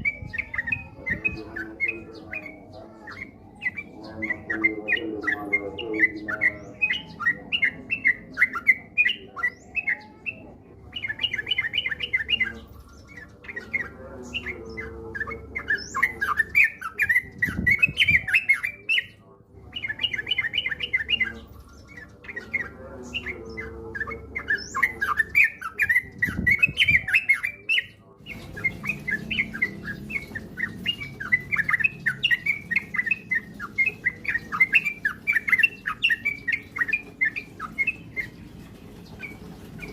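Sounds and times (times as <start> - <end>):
bird singing bubbling chirps: 0.0 - 39.9.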